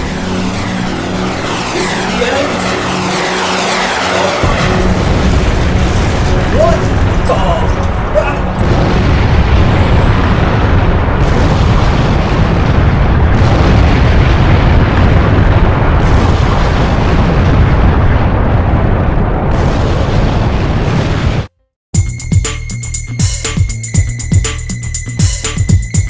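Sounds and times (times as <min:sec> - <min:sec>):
explosion rumble: 0:00.0 - 0:21.5.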